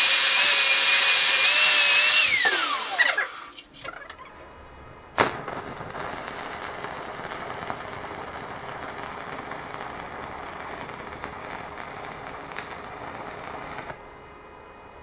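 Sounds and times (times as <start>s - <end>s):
arc welding crackle and hiss: 0.0s - 3.6s, 5.2s - 14.0s.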